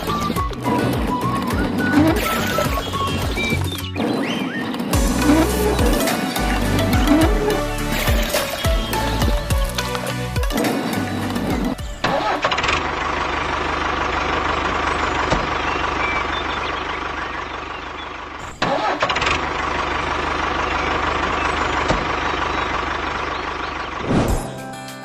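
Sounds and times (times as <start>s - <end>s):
tractor engine idling: 0.0s - 4.0s, 4.9s - 24.0s.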